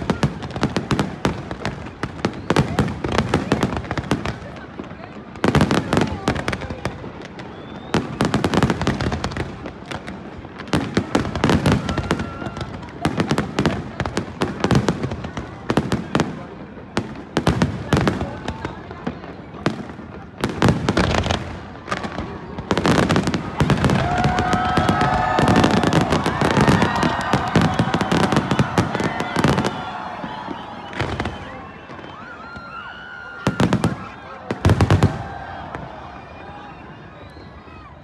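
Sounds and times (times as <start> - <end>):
crackling firework bangs: 0.0 - 35.9
crowd voices: 0.0 - 38.0.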